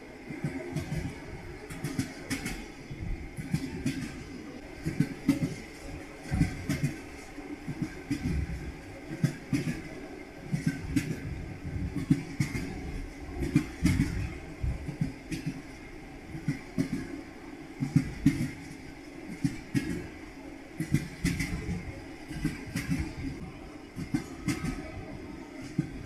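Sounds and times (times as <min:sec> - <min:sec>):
rumble of moving train: 0:00.0 - 0:26.0
train wheels clattering over joints: 0:00.4 - 0:17.2, 0:17.8 - 0:26.0.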